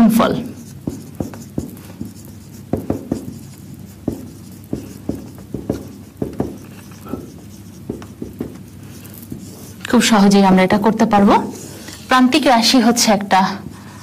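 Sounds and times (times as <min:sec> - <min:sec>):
marker writing on whiteboard: 0:00.2 - 0:10.4, 0:11.2 - 0:14.0.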